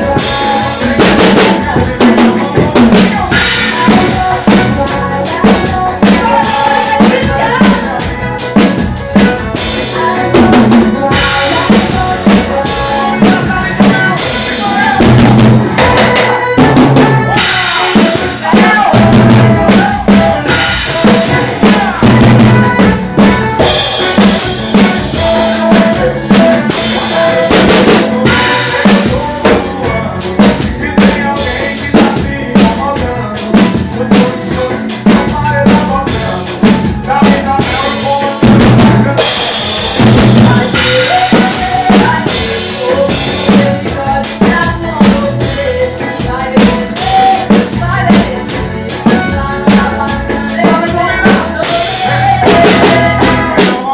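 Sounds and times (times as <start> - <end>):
bass guitar: 0.0 - 53.9
drum kit playing fast beat: 0.0 - 53.9
keyboard: 0.0 - 53.9.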